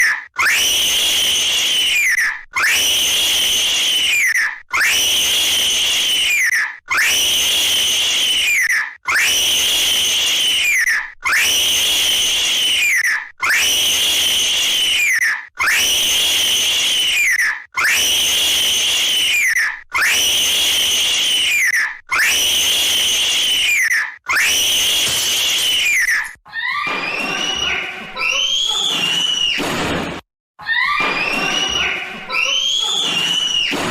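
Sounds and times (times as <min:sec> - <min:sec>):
high-pitched scream: 0:00.0 - 0:29.6, 0:30.6 - 0:33.9.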